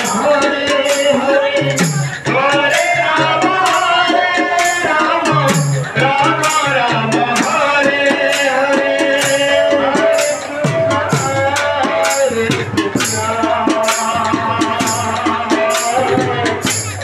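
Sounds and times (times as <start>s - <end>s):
barrel drum played by hand: 0.0s - 17.0s.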